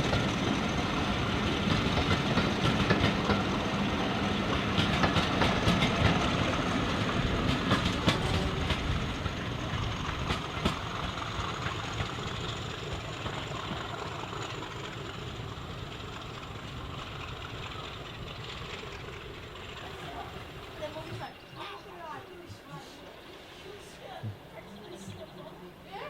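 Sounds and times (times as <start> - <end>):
train wheels clicking over rail joints: 0.0 - 21.5.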